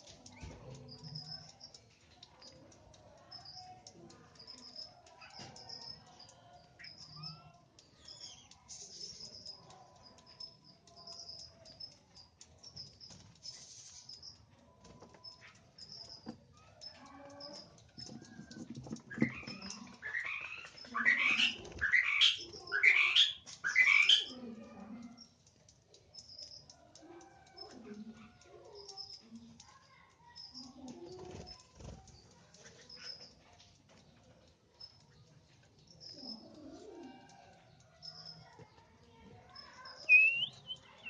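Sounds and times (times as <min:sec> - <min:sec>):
birds chirping: 0:00.0 - 0:26.8, 0:27.4 - 0:41.0.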